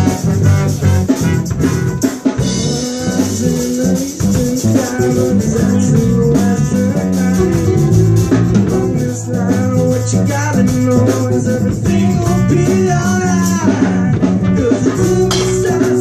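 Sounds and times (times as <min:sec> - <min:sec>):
drums: 0:00.0 - 0:16.0
lead guitar: 0:00.0 - 0:16.0
live band playing: 0:00.0 - 0:16.0.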